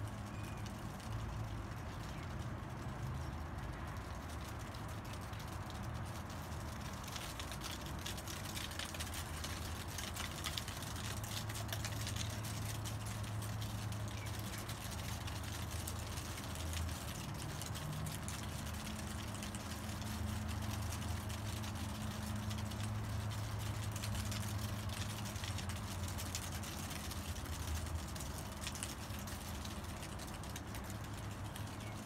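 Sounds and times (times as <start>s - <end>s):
small crackles: 0.0s - 32.0s.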